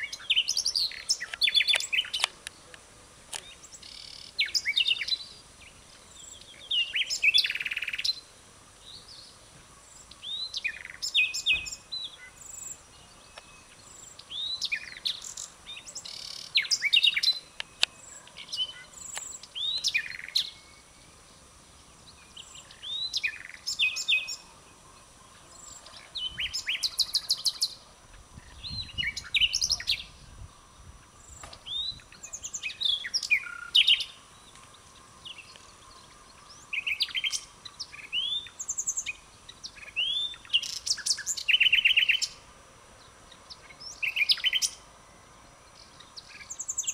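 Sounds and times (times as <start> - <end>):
nightingale singing: 0.0 - 46.9.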